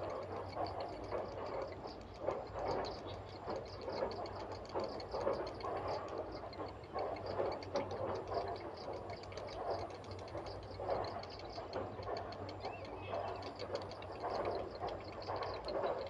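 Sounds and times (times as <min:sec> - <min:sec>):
heron chicks rattling begging calls: 0:00.1 - 0:16.0.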